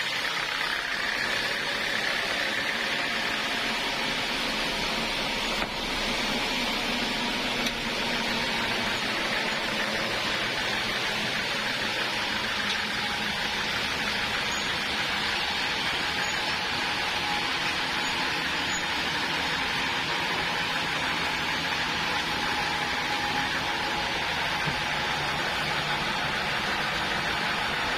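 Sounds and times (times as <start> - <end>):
sawmill running: 0.0 - 27.9.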